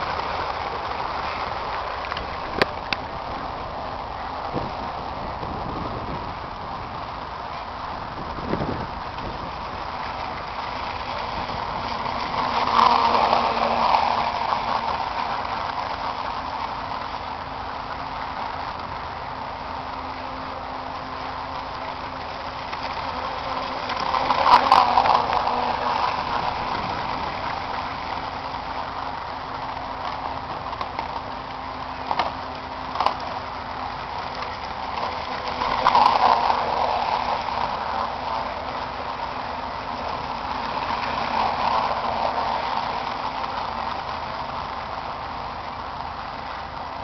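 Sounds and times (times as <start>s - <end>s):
model boat motor: 0.0s - 47.0s.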